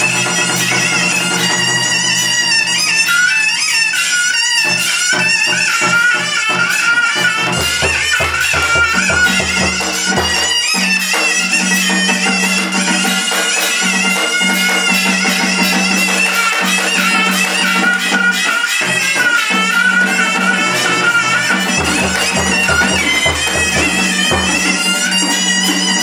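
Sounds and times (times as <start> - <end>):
shrill double-reed horn melody: 0.0 - 26.0
rapid drumbeats: 3.8 - 26.0.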